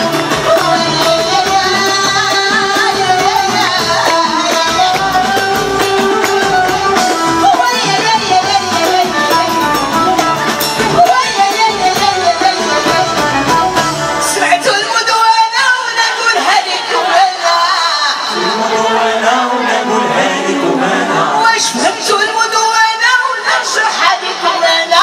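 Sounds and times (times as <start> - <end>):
woman singing: 0.0 - 19.1, 21.2 - 25.0
band playing with percussion: 0.0 - 25.0.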